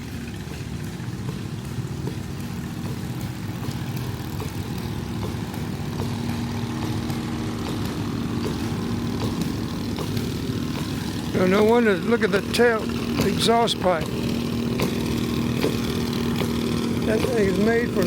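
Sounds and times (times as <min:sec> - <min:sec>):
small engine running loudly: 0:00.0 - 0:18.0.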